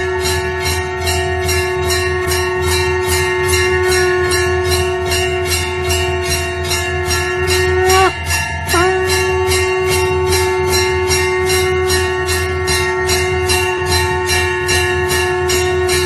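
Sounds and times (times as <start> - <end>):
conch shell blown: 0.0 - 16.0
hand bell rung rapidly: 0.0 - 16.0.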